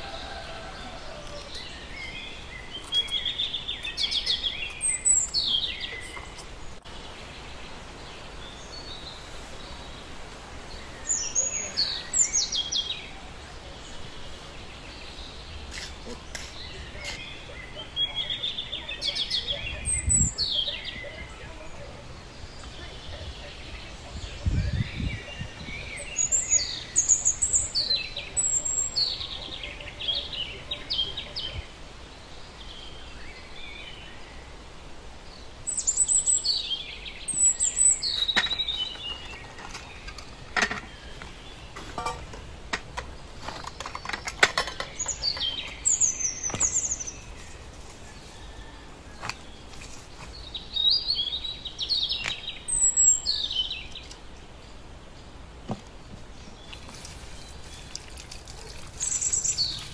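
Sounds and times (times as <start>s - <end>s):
birds chirping: 0.0s - 59.9s
outdoor background noise: 0.0s - 59.9s.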